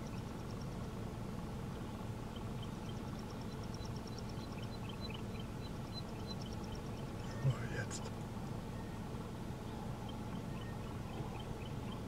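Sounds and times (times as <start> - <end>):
steady low hum: 0.0 - 12.0
faint high chirping: 2.2 - 12.0.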